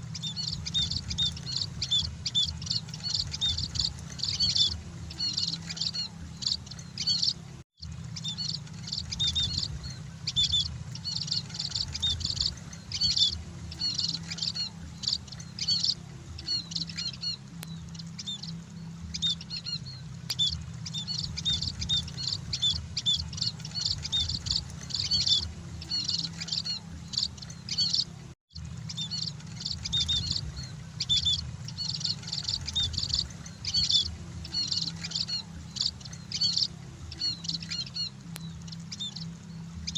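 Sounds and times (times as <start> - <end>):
flock of birds chirping: 0.0 - 39.9
steady low hum: 0.0 - 39.9.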